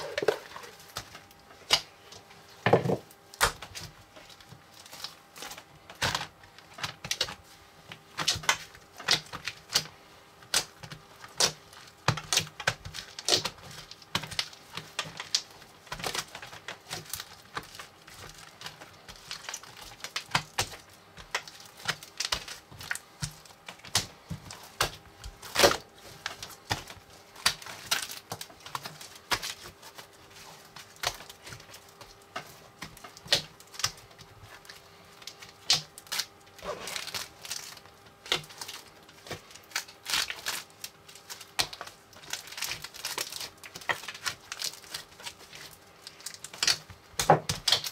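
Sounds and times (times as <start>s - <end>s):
slime crackling and popping: 8.0s - 47.9s.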